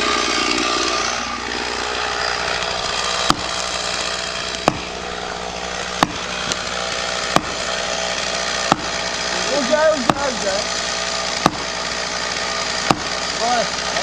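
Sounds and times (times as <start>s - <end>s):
chainsaw cutting a tree: 0.0s - 14.0s
wood cracking: 0.0s - 14.0s.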